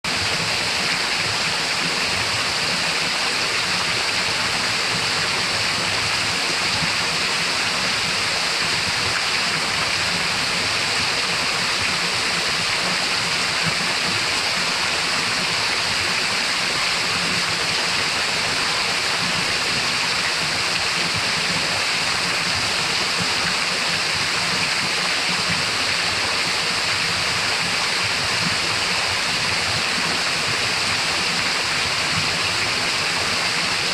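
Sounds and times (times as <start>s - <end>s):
waterfall pouring into pool: 0.1s - 33.9s.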